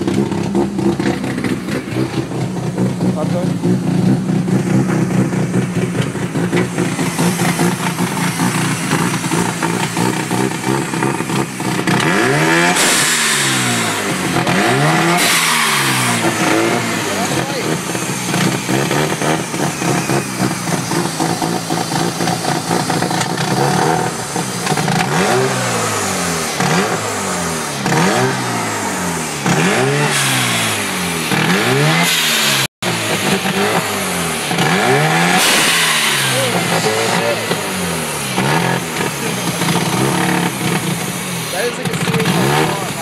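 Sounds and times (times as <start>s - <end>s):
rotary engine revving: 0.0s - 43.0s.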